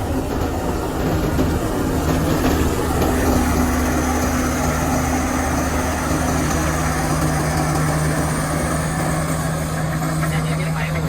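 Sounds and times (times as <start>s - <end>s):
heavy diesel engine humming: 0.0s - 11.0s.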